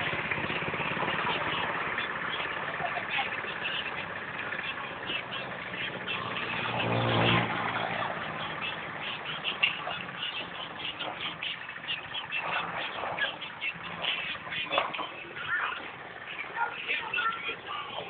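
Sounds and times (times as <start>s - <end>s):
vehicle engine passing: 0.0s - 18.0s.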